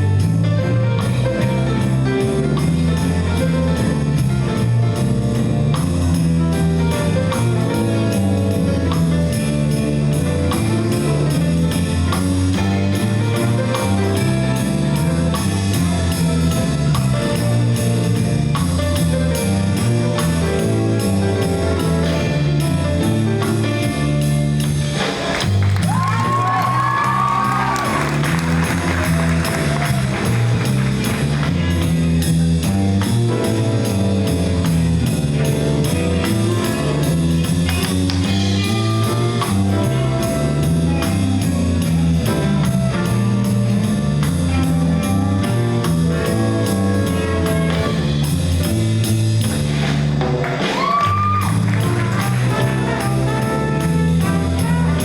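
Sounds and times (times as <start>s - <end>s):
jazz band playing: 0.0s - 55.0s
walking bass line: 0.0s - 55.0s.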